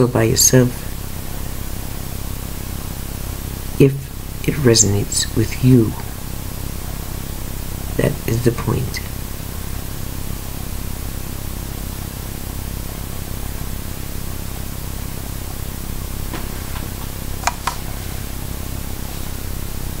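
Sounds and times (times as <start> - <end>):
microphone hiss and hum: 0.0 - 20.0.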